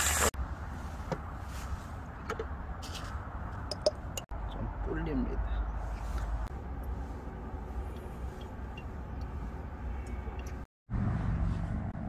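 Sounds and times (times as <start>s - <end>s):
low outdoor rumble: 0.4s - 12.0s.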